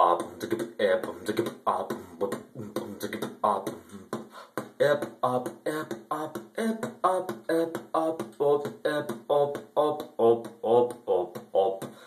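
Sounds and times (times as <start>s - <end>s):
vocal beatboxing: 0.0s - 12.0s.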